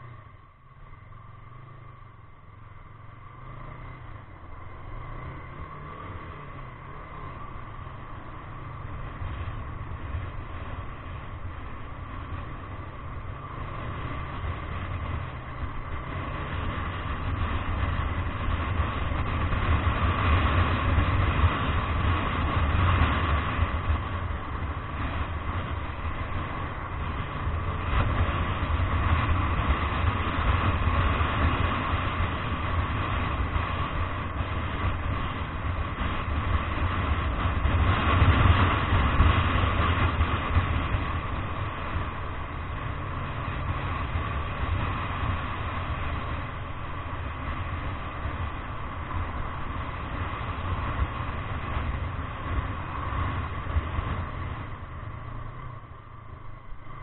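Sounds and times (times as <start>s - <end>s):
road noise: 0.0s - 57.0s
vehicle engine: 0.0s - 57.0s.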